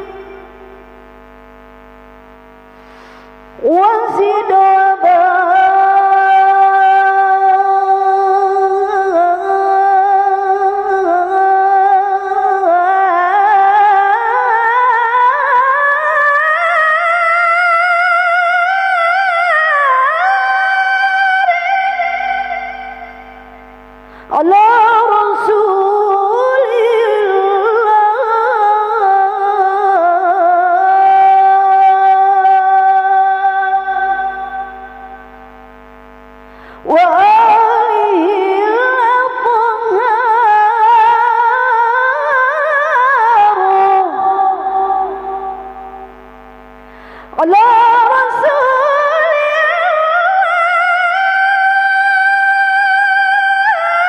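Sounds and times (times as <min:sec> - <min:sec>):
woman reciting melodically: 0:00.0 - 0:00.8, 0:03.3 - 0:35.5, 0:36.8 - 0:46.1, 0:46.8 - 0:54.0.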